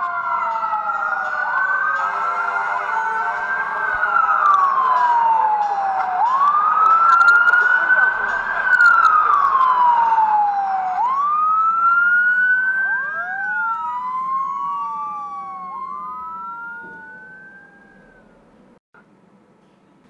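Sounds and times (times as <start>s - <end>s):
second wailing siren: 0.0s - 18.5s
emergency vehicle siren wailing: 0.0s - 18.8s.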